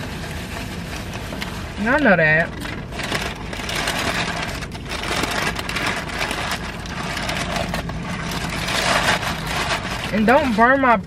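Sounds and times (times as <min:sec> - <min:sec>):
paper wrappers rustling: 0:00.0 - 0:11.0.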